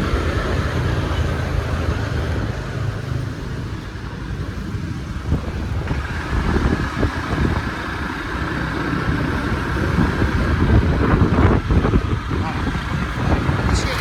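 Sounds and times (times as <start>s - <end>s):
motor scooter engine running: 0.0s - 14.0s.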